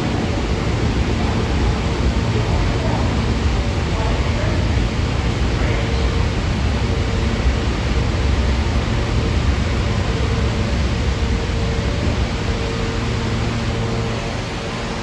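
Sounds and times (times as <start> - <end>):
faint motor hum: 0.0 - 15.0
wheels rumbling on rail: 0.0 - 15.0.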